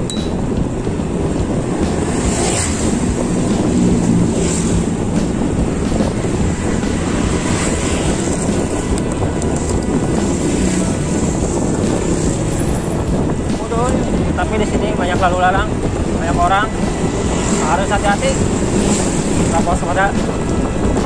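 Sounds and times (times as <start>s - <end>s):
wind over microphone: 0.0s - 21.0s.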